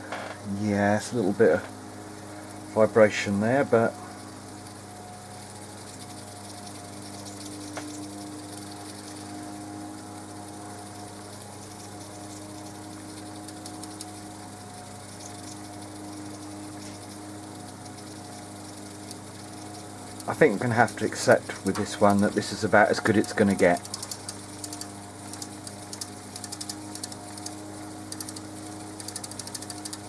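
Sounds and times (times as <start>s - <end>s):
tape recorder motor whirring: 2.5s - 30.0s.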